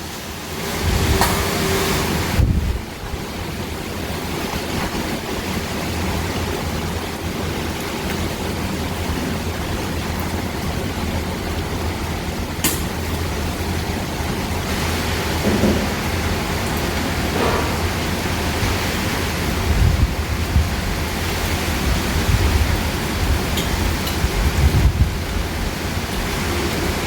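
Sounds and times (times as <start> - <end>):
rain hiss: 0.0 - 27.0
wind buffeting microphone: 0.6 - 27.0.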